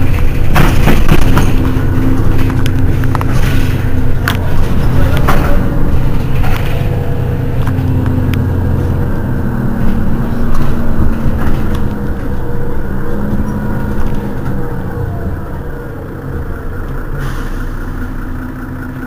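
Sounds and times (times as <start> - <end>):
bus diesel engine idling: 0.0 - 19.0.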